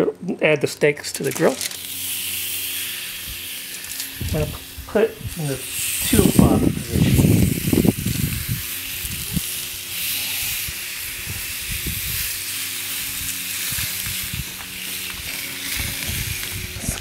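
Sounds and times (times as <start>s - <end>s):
steaks sizzling on grill: 1.2s - 17.0s.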